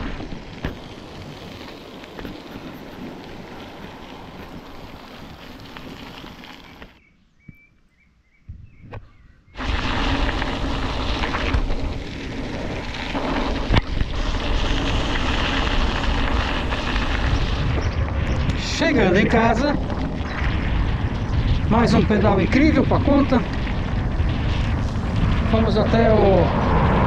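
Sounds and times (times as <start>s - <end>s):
wind rushing over microphone: 0.0s - 6.9s, 8.5s - 27.0s.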